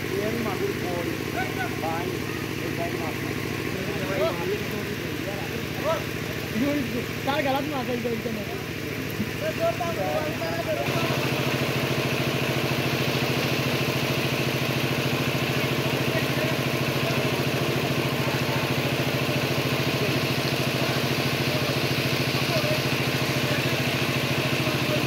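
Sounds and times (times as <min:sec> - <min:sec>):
small engine idling: 0:00.0 - 0:25.0.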